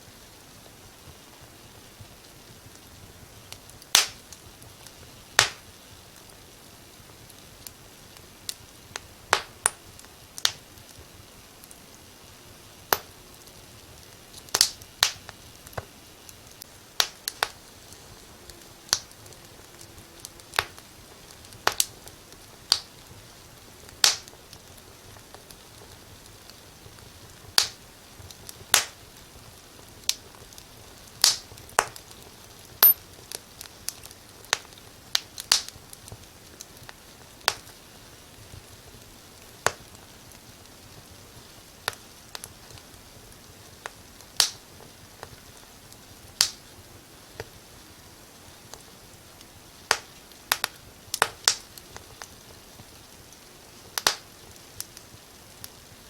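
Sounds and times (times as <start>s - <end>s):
faint steady hiss: 0.0s - 56.0s
wood fire crackling: 0.0s - 56.0s.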